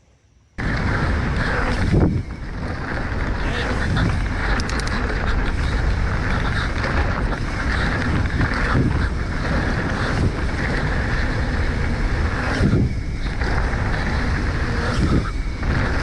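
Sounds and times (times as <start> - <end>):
bike tyres clattering on dirt: 0.6 - 14.9
wind rushing over microphone: 0.6 - 16.0.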